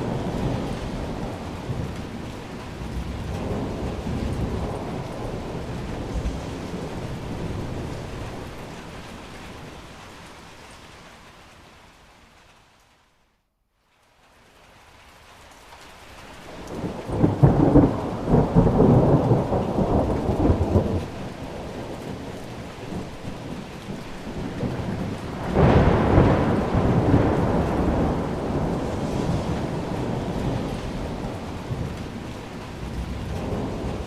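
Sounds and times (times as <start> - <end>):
rolling thunder: 0.0 - 10.4, 16.5 - 34.0
steady rain: 0.0 - 34.0.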